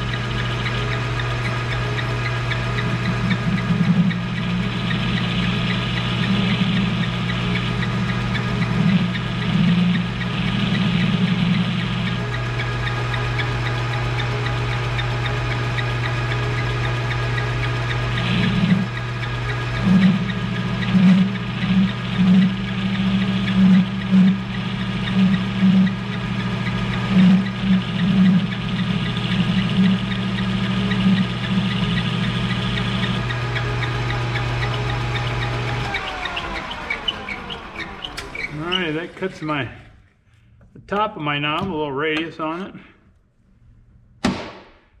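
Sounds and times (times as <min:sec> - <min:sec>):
lathe tool cutting metal: 0:00.0 - 0:40.0
lathe motor hum: 0:00.0 - 0:40.2.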